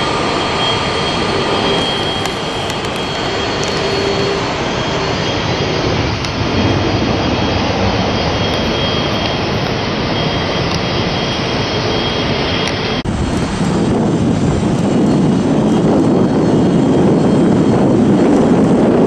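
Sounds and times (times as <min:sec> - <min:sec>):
jet engine rushing with whine: 0:00.0 - 0:19.0.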